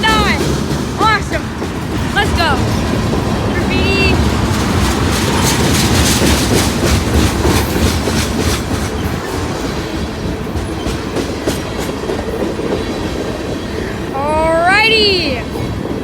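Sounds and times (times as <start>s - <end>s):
train wheels clattering over rail joints: 0.0s - 14.2s.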